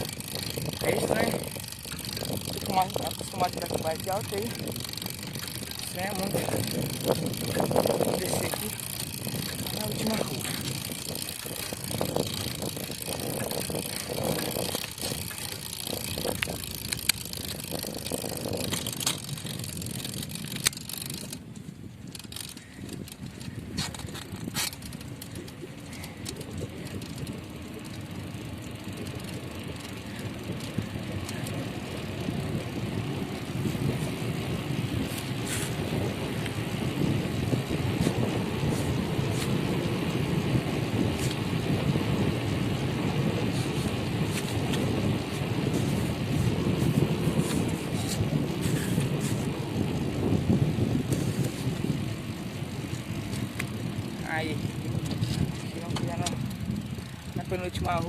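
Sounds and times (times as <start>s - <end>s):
bicycle tyres and rushing air: 0.0s - 58.0s
bike clicks and rattles: 0.0s - 58.0s.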